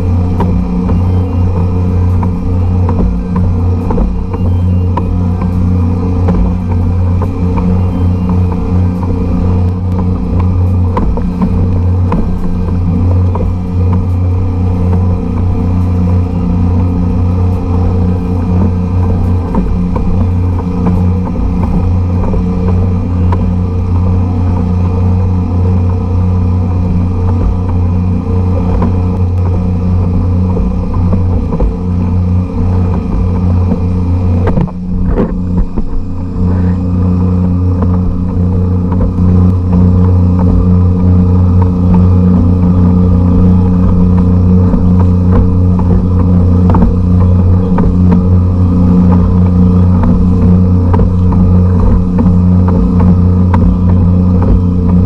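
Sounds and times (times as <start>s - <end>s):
two-stroke outboard engine running: 0.0s - 55.0s.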